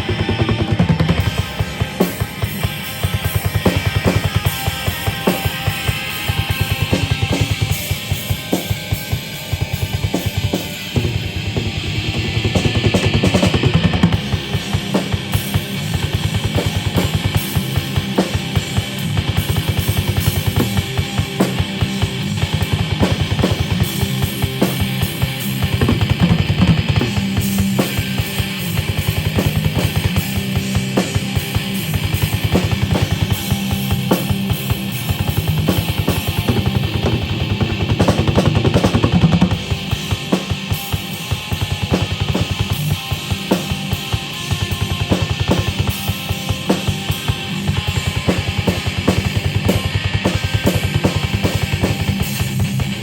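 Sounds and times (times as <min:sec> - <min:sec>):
fast busy drum kit: 0:00.0 - 0:53.0
live rock band playing: 0:00.0 - 0:53.0.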